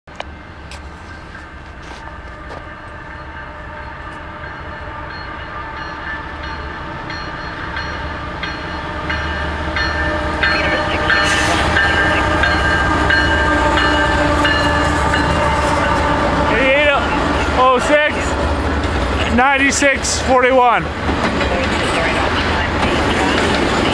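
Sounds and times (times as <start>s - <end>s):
freight train approaching: 0.1s - 23.9s.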